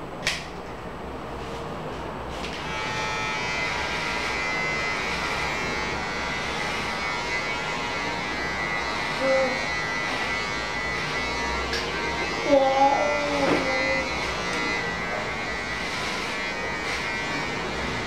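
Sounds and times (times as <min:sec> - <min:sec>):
electric hair clippers buzzing: 0:02.4 - 0:18.0.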